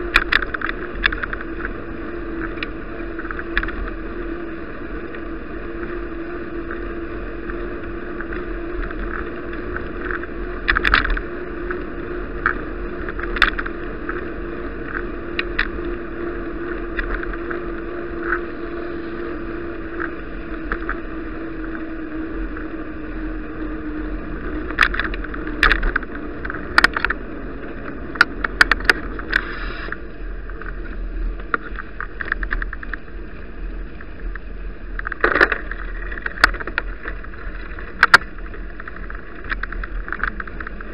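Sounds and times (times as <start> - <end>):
bicycle rattling over bumps: 0.0 - 40.9
faint hum: 0.0 - 40.9
tyre road and wind noise: 0.0 - 40.9.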